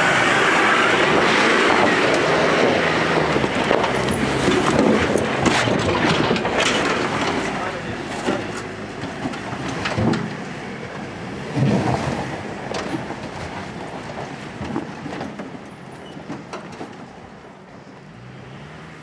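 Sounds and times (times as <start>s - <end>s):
tyres and trailer rattling over rocks: 0.0s - 17.7s
engine working under load: 0.0s - 19.0s.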